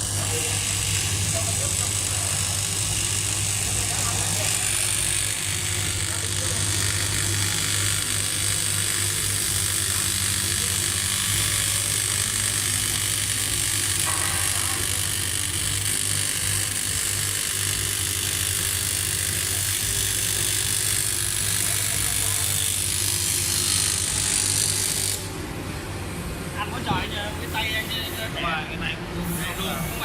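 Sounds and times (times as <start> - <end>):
welding arc buzzing and hissing: 0.0 - 25.4.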